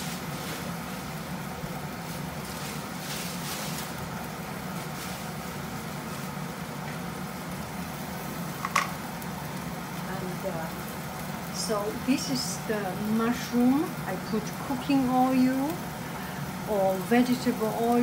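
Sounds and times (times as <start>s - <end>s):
gas stove humming: 0.0s - 18.0s.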